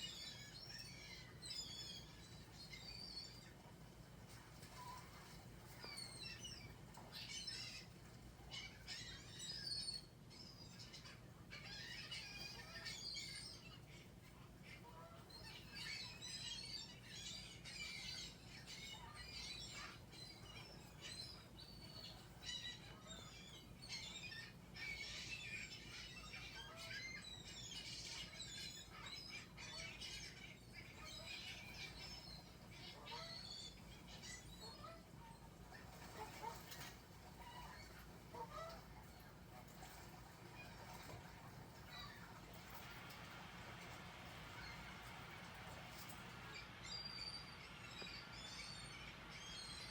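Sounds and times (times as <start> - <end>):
faint birds chirping: 0.0 - 49.9.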